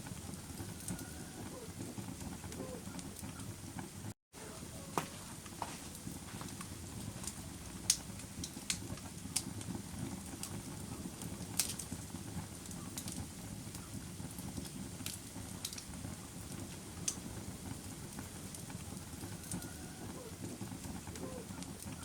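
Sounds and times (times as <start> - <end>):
burning wood crackling and popping: 0.0 - 22.0
campfire flames rushing: 0.0 - 22.0.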